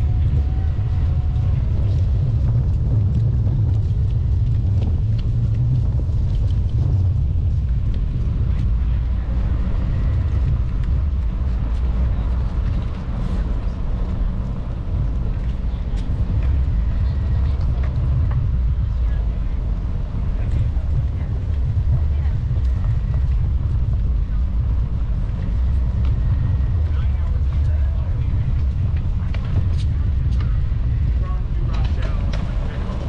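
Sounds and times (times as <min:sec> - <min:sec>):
bicycle rolling on concrete: 0:00.0 - 0:33.0
wind buffeting microphone: 0:00.0 - 0:33.0.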